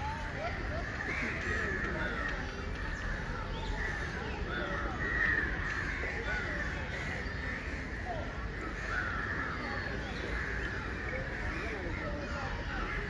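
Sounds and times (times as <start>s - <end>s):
crowd chatter: 0.0s - 13.0s
crows cawing: 0.6s - 13.0s.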